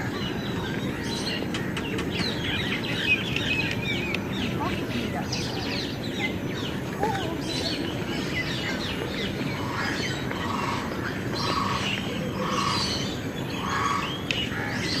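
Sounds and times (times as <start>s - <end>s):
caged birds chirping: 0.0s - 15.0s
low bird call: 0.0s - 15.0s.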